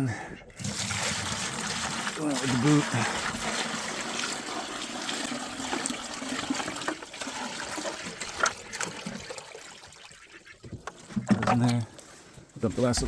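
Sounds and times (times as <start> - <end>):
water pouring from a bucket: 0.6 - 12.1.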